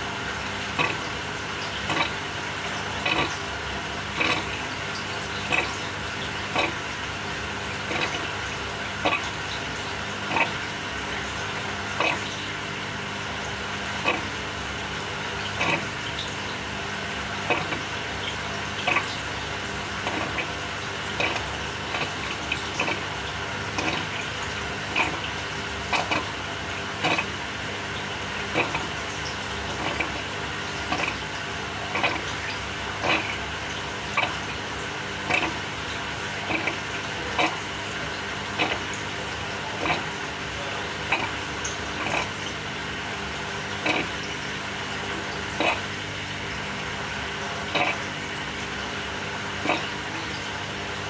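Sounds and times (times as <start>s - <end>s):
water sloshing: 0.0s - 12.4s, 13.4s - 50.9s
washing machine motor hum: 0.0s - 51.0s.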